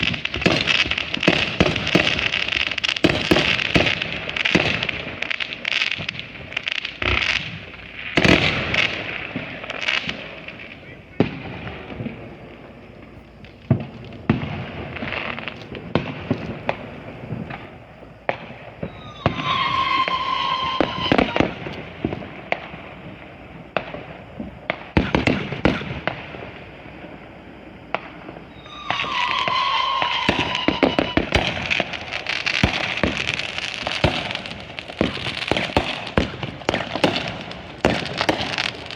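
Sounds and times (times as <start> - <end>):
firework hiss with high tone: 0.0 - 38.9
fireworks bangs and pops: 0.0 - 38.9.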